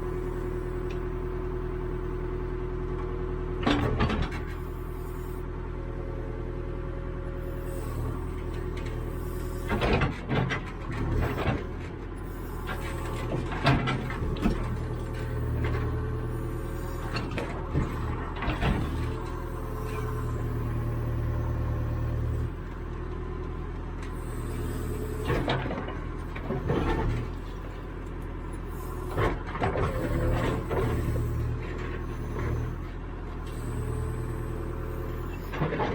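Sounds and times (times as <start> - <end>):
backhoe diesel engine running: 0.0 - 35.9.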